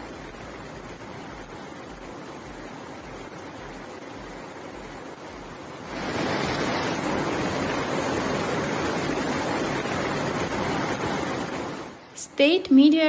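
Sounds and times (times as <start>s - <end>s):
floodwater rushing: 0.0s - 12.2s.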